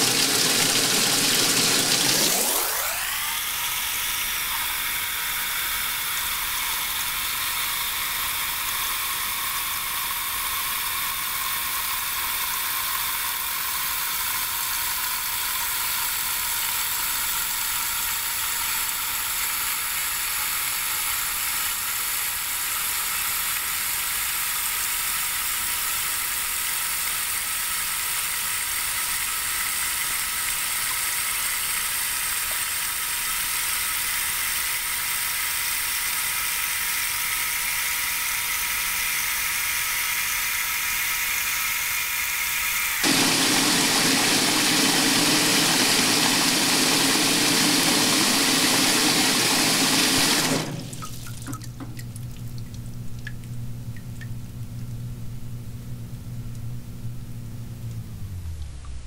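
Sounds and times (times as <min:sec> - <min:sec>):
water running into washer tub: 0:00.0 - 0:54.9.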